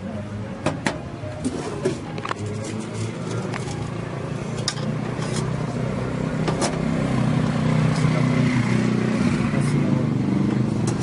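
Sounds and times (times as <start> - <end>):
engine running: 2.0 - 11.0.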